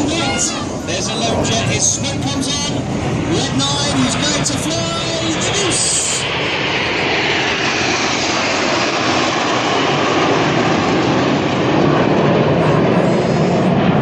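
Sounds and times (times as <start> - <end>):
jet engine roar with high whine: 0.0 - 14.0.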